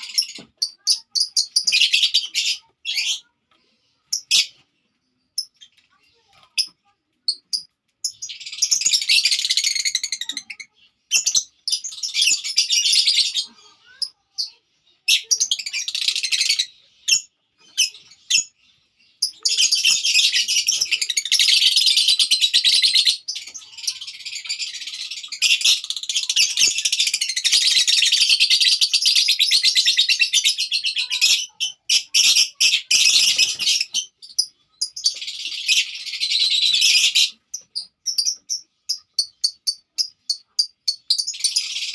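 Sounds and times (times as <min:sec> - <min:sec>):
lovebirds chattering: 0:00.0 - 0:41.9.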